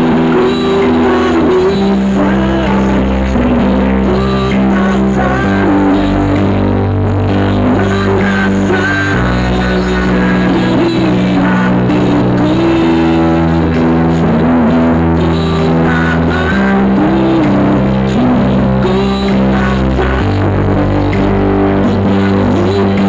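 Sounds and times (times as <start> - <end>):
loud music over sound system: 0.0 - 23.0.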